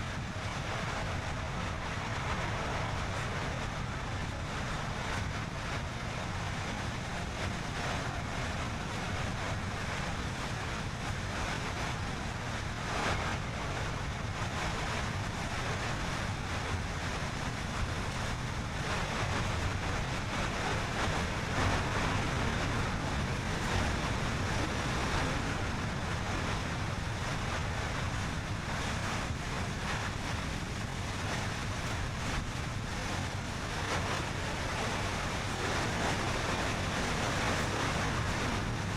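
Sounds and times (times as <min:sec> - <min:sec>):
car road and wind noise: 0:00.0 - 0:38.9.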